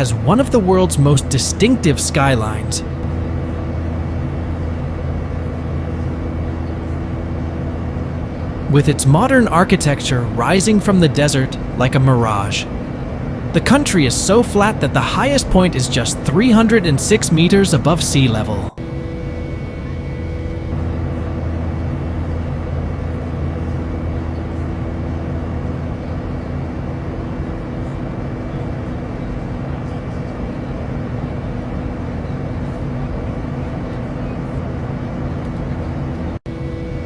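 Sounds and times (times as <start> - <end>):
airliner cabin rushing drone: 0.0 - 37.0
faint constant hum: 0.0 - 37.0.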